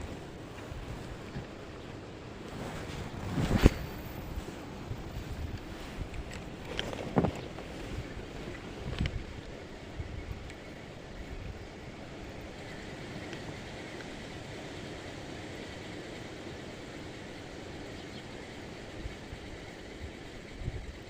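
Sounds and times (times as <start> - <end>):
wind buffeting microphone: 0.0 - 15.8, 16.5 - 21.0
wind over water: 0.0 - 21.0.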